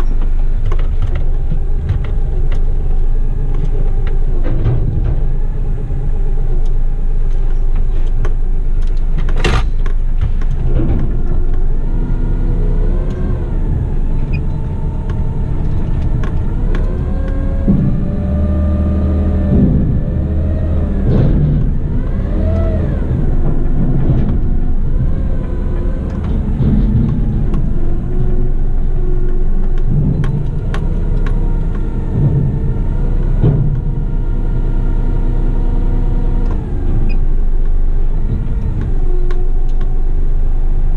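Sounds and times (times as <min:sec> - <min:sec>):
diesel truck engine revving: 0:00.0 - 0:40.9.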